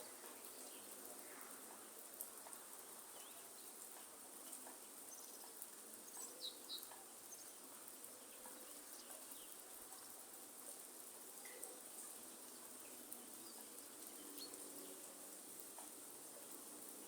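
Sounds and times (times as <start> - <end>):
light rain pattering in forest: 0.0 - 17.0.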